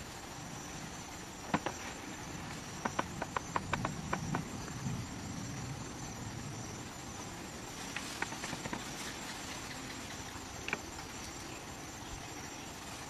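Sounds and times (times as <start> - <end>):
faint high hiss: 0.0 - 13.0
grass and brush rustling: 0.0 - 13.0.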